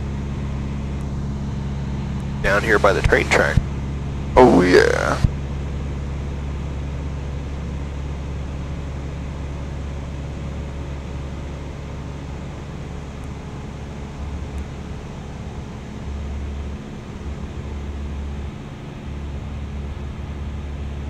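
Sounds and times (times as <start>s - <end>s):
light aircraft engine drone: 0.0s - 21.0s.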